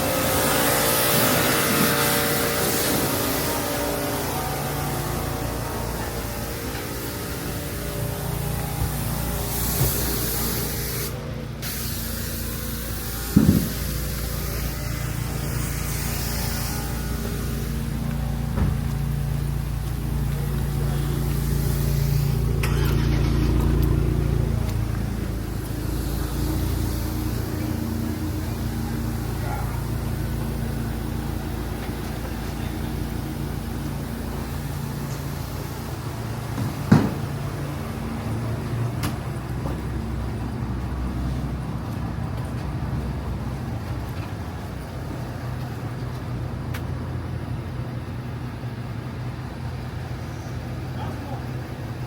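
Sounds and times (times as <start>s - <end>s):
engine humming steadily: 0.0s - 52.0s.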